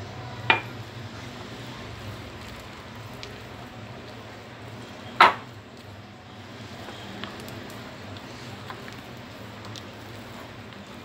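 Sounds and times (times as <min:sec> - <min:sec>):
dough squishing: 0:00.4 - 0:11.0.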